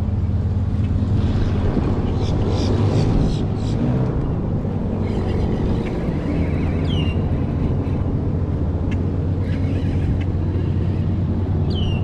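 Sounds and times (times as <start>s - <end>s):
airboat engine drone: 0.0s - 12.0s.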